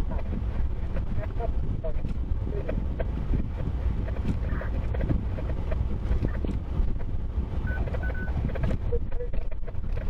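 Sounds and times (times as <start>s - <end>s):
vehicle driving rumble: 0.0s - 10.0s.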